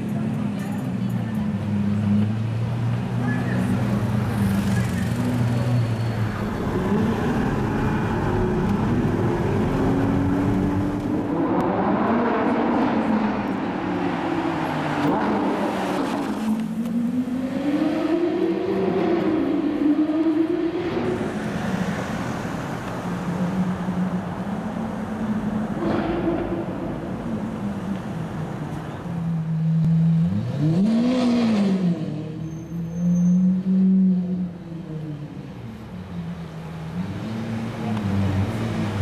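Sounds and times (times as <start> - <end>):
supercar engines revving: 1.5 - 35.7.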